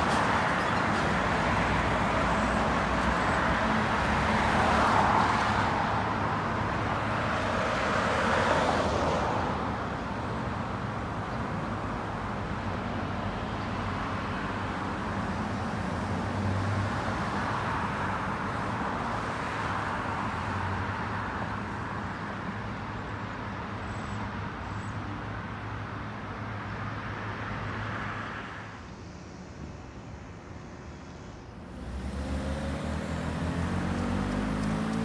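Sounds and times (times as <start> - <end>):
cars passing: 0.0 - 22.9, 25.4 - 35.0.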